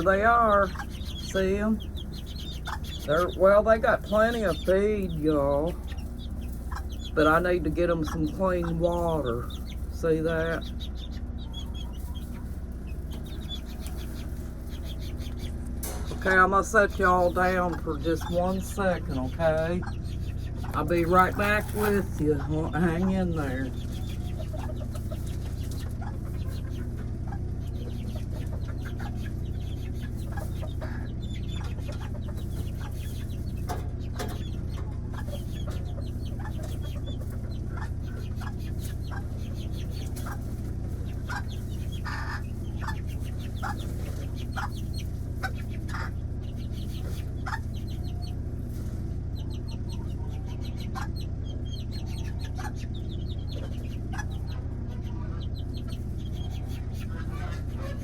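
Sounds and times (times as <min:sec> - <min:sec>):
chickens clucking: 0:00.0 - 0:58.0
steady low hum: 0:00.0 - 0:58.0.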